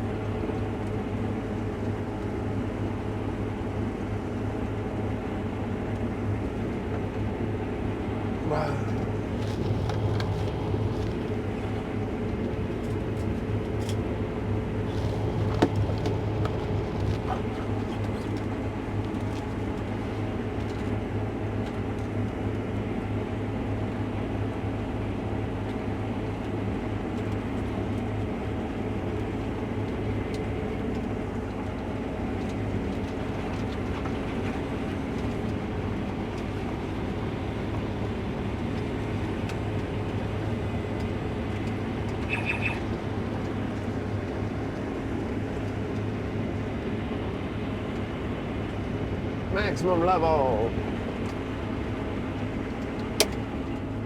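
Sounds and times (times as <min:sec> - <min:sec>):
combine harvester drone: 0:00.0 - 0:54.0.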